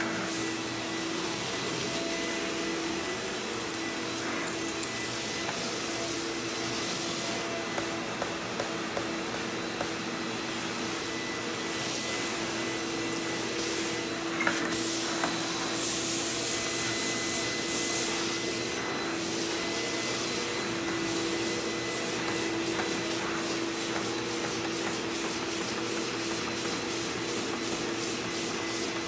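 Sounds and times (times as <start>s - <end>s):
vacuum cleaner on carpet: 0.0s - 29.0s.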